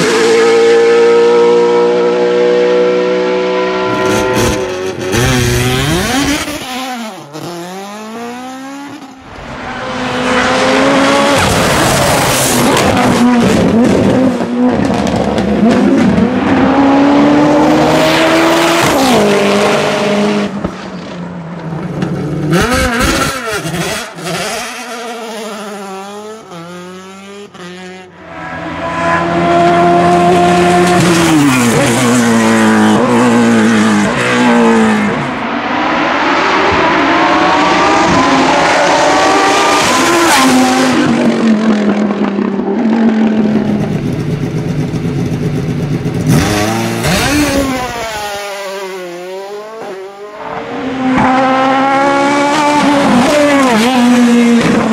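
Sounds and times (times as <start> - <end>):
racing car engines at full throttle: 0.0 - 54.9.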